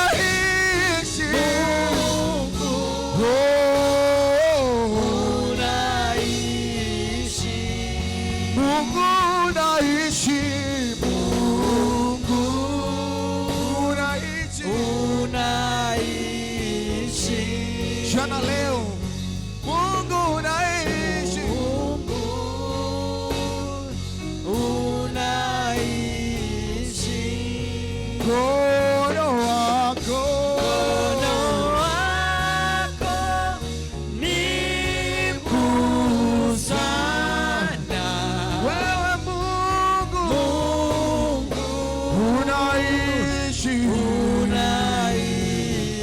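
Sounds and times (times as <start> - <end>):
band with bass and drums: 0.0 - 46.0
voices singing worship song: 0.0 - 46.0.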